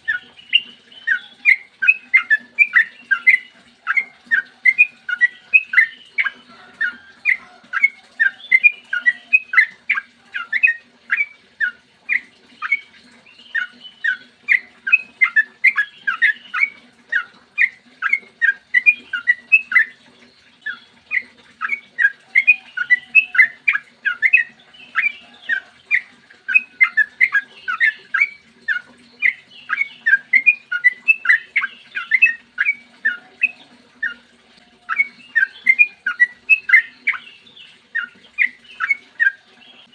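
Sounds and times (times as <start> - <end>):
bird singing fast sharp notes: 0.0 - 34.3, 34.9 - 39.9.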